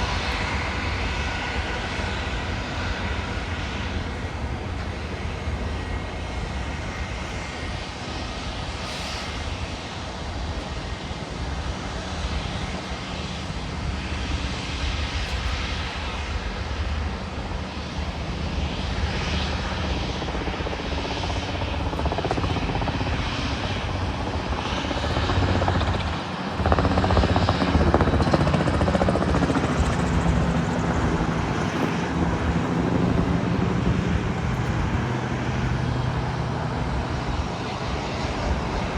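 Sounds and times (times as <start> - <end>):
jet airliner engines rumbling: 0.0 - 38.9.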